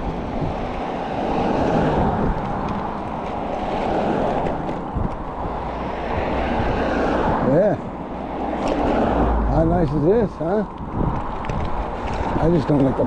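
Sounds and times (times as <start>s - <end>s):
tyre rumble on bumpy pavement: 0.0s - 13.0s
wind rushing across microphone: 0.0s - 13.0s.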